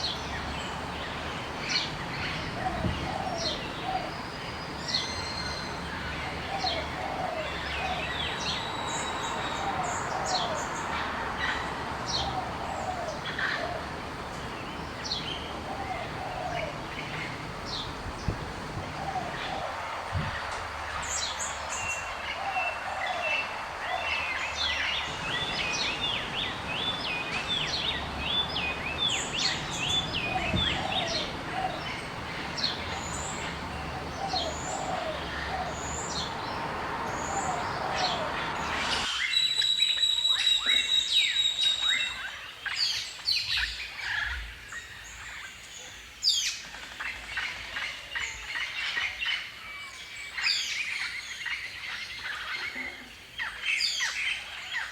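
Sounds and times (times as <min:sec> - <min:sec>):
birds chirping and trilling: 0:00.0 - 0:54.9
steady background hiss: 0:00.0 - 0:54.9.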